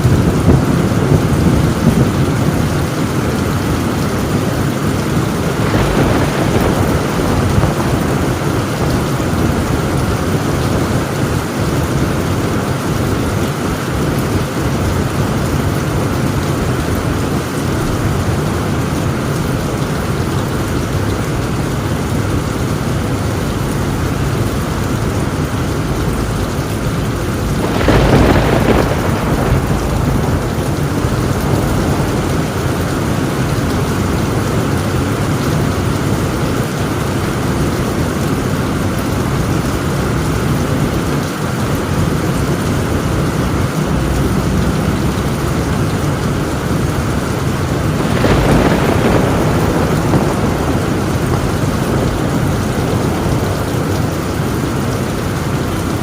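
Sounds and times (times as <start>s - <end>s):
heavy rain on a tin roof: 0.0s - 56.0s
thunderclap rolling: 0.0s - 56.0s.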